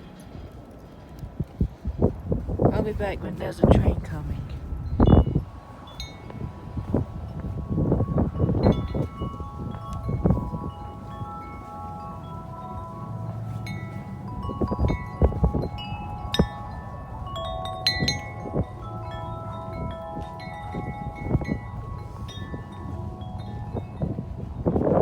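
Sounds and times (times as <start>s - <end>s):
wind buffeting microphone: 0.0s - 25.0s
wind chime ringing: 3.9s - 25.0s.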